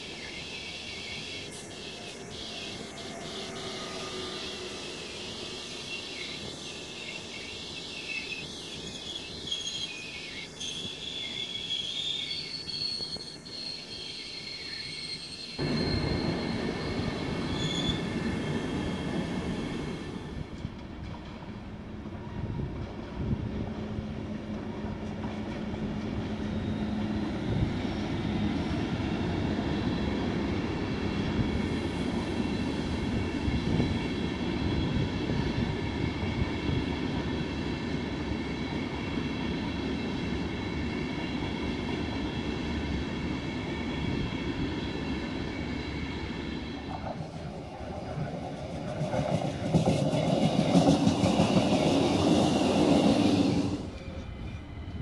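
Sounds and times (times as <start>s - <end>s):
train wheel squeal: 0.0s - 21.5s, 23.8s - 55.0s
train coaches rolling rumble: 0.0s - 55.0s.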